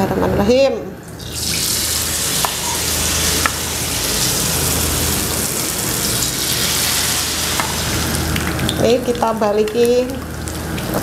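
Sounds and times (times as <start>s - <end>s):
tofu sizzling in hot oil: 1.2s - 11.0s.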